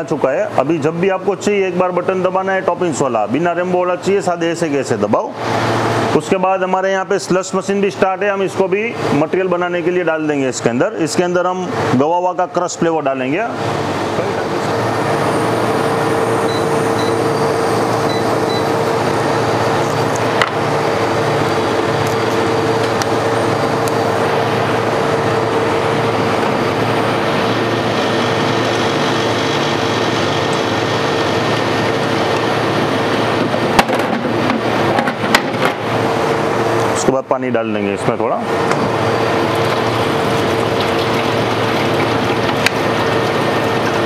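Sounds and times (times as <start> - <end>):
machinery humming and whirring: 0.0 - 44.0.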